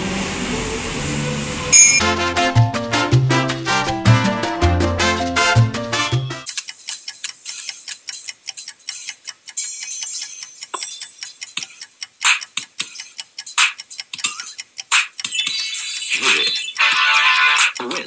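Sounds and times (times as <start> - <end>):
clock ticking: 1.8 - 18.0.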